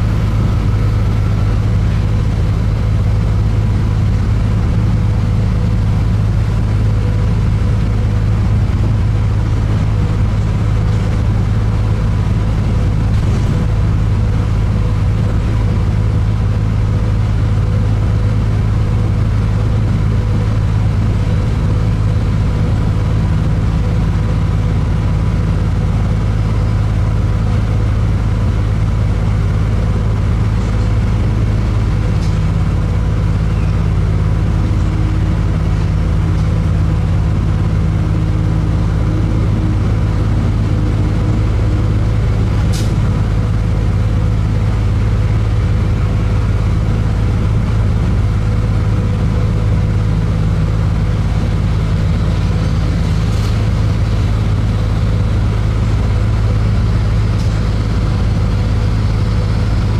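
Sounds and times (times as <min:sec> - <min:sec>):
vehicle engine drone in cabin: 0:00.0 - 0:59.9.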